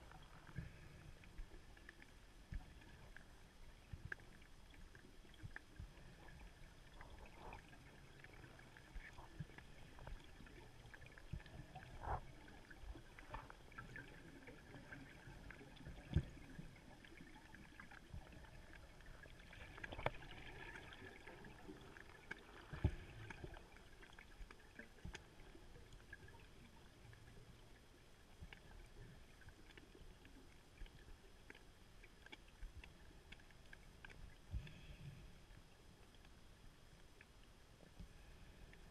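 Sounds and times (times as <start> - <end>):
low underwater hiss: 0.0 - 38.9.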